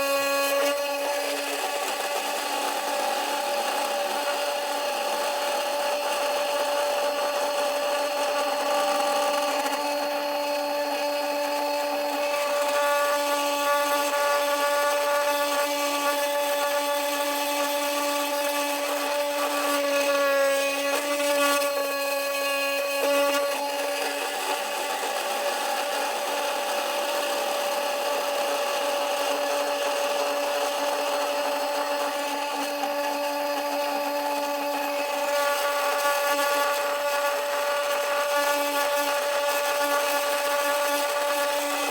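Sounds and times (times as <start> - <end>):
cutter scraping metal: 0.0 - 41.9
router spindle motor whine: 0.0 - 41.9.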